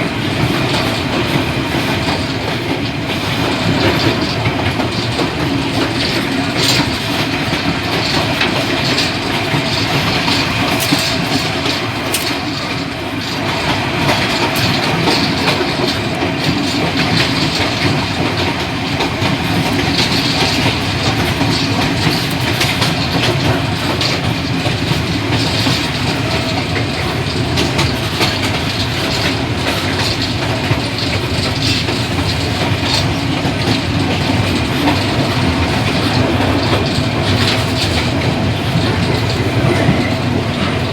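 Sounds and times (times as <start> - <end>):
train carriage rumble: 0.0 - 40.9
wheels clicking on rails: 0.0 - 40.9.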